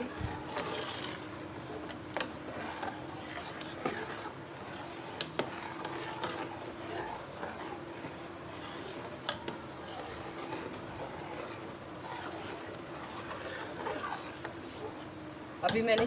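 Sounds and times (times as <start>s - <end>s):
steady background hiss: 0.0s - 15.8s
ladle stirring in pot: 0.0s - 16.0s.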